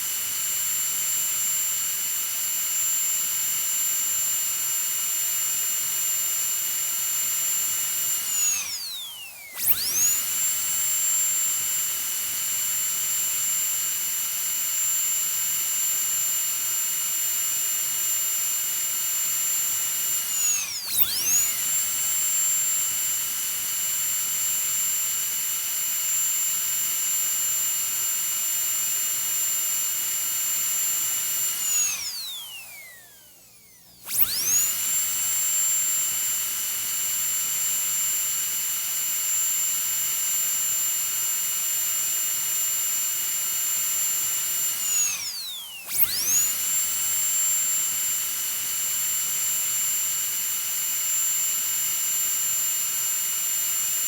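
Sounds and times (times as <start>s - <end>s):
dental drill whining: 0.0s - 54.0s.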